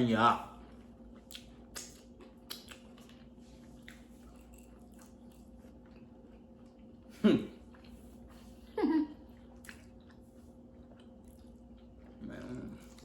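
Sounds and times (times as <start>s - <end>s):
faint steady hum: 0.0s - 13.0s
person chewing food: 0.5s - 13.0s.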